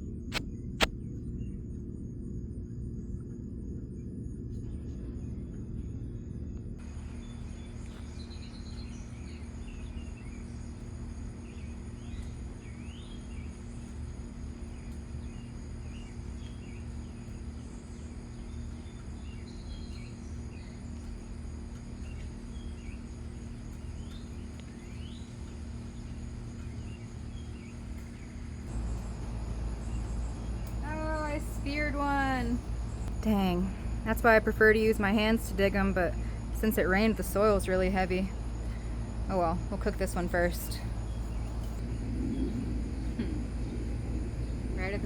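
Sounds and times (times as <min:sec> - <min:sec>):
insect trill: 0:00.0 - 0:45.0
low rumble and hum: 0:00.0 - 0:45.0
birds chirping: 0:06.8 - 0:45.0.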